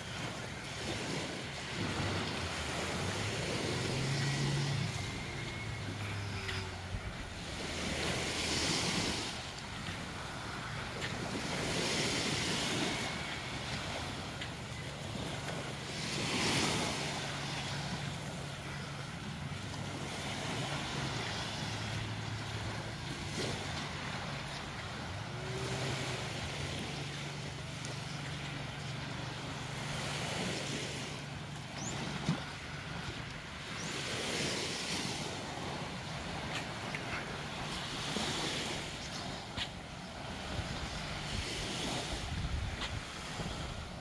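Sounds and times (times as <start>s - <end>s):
low engine hum: 0.0s - 41.3s
waves washing on sandy beach: 0.0s - 44.0s.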